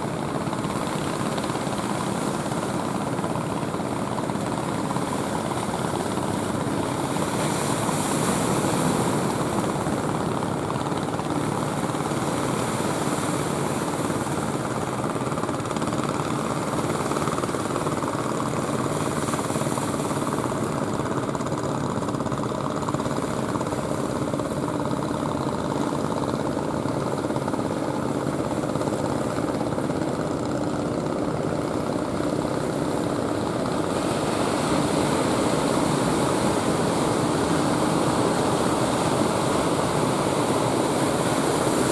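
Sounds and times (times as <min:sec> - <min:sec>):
ocean surf roaring: 0:00.0 - 0:41.9.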